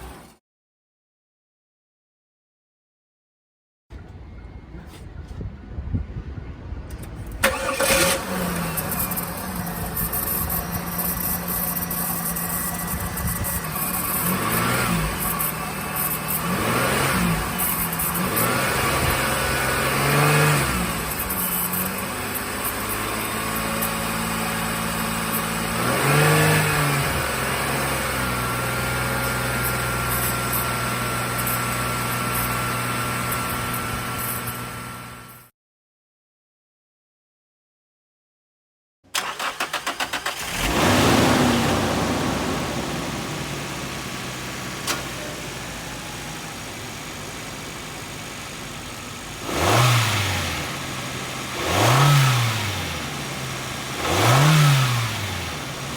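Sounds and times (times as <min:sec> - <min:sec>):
car engine starting and revving: 0:07.1 - 0:35.2, 0:39.2 - 0:55.9.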